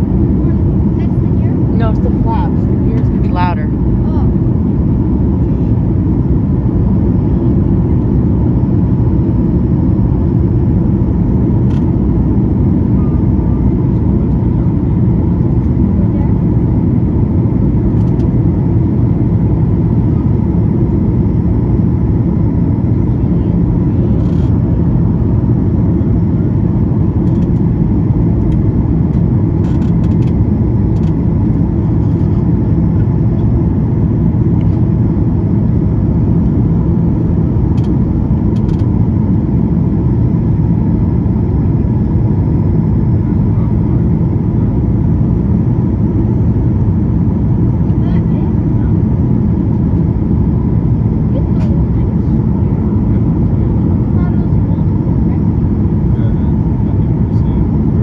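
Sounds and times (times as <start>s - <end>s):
aircraft engine cabin roar: 0.0s - 58.0s.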